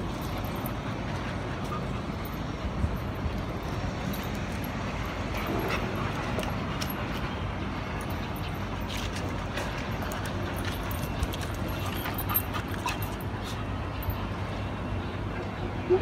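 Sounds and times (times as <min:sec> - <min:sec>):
dogs play-fighting: 0:00.0 - 0:16.0.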